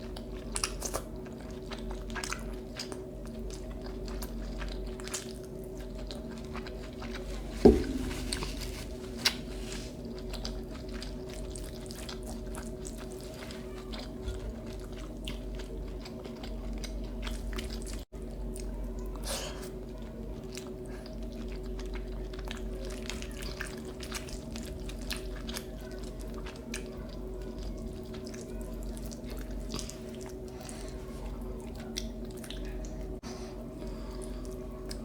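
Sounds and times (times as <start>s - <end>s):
wet chewing of food: 0.0s - 35.0s.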